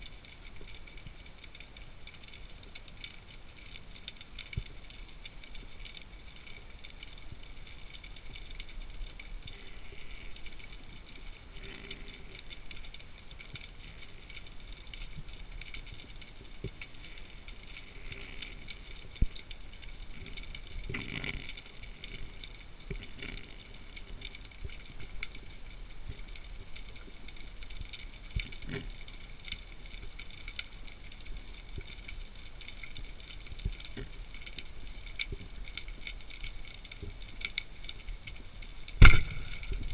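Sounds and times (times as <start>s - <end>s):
sharp underwater clicks: 0.0s - 39.9s
underwater crackling hiss: 0.0s - 39.9s.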